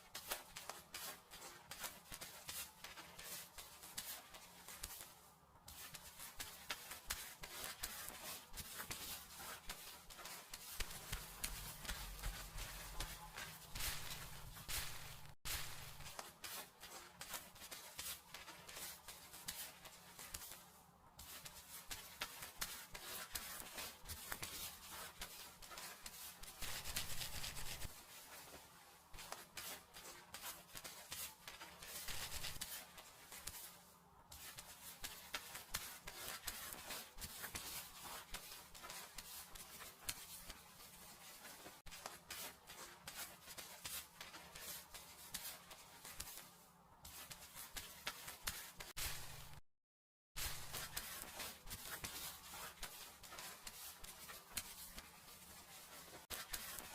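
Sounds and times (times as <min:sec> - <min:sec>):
fingers scratching through hair: 0:00.0 - 0:49.6, 0:50.4 - 0:56.9.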